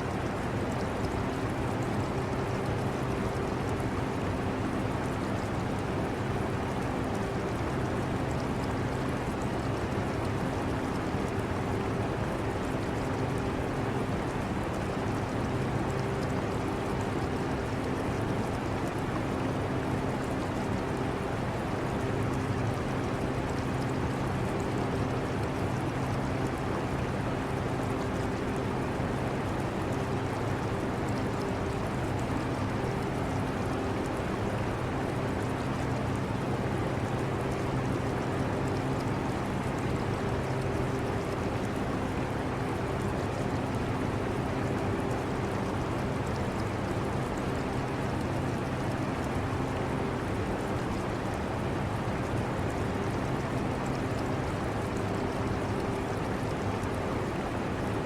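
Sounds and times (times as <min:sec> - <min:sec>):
aquarium water trickling: 0:00.0 - 0:58.0.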